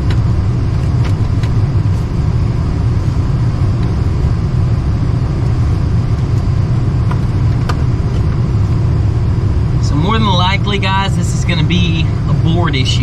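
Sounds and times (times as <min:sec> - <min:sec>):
hvac blower rumbling: 0:00.0 - 0:13.0.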